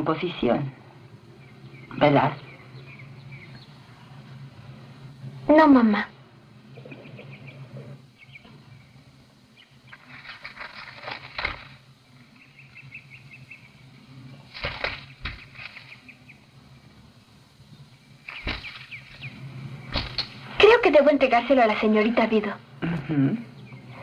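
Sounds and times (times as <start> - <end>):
small songbirds chirping: 0.0 - 22.8, 23.4 - 24.0
low steady hum: 0.0 - 24.0.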